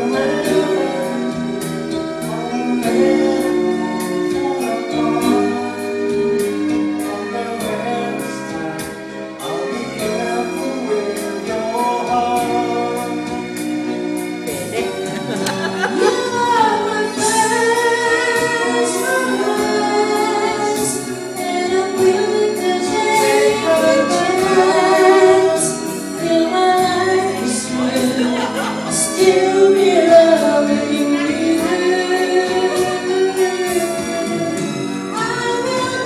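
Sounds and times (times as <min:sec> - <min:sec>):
man and woman singing duet: 0:00.0 - 0:13.8, 0:14.4 - 0:36.0
backing music with beat: 0:00.0 - 0:36.0.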